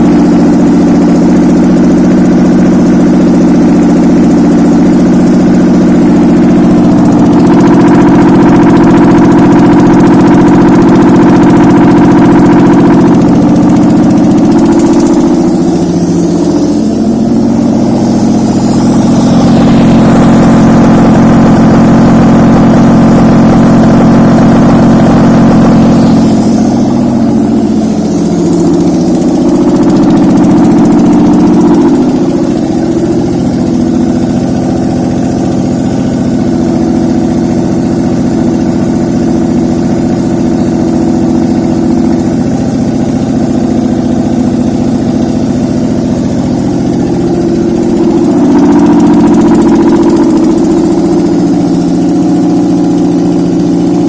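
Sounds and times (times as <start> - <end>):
engine revving and idling: 0.0 - 54.0.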